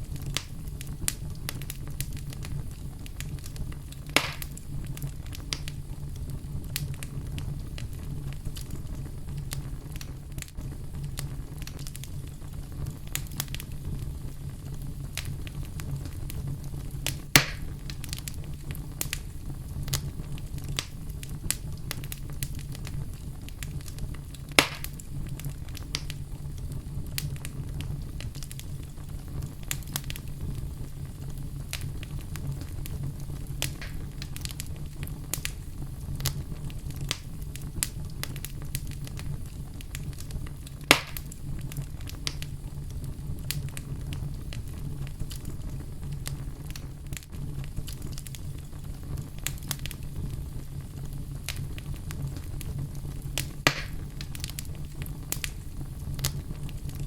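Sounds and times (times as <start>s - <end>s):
fireplace fire crackling: 0.0s - 57.0s
loud fire pops: 0.0s - 57.0s.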